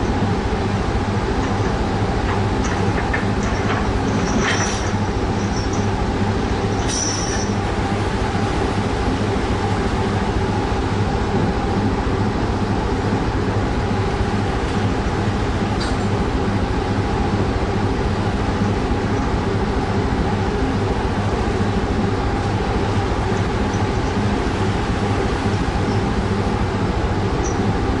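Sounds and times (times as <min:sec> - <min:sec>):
boat engines throbbing drone: 0:00.0 - 0:28.0.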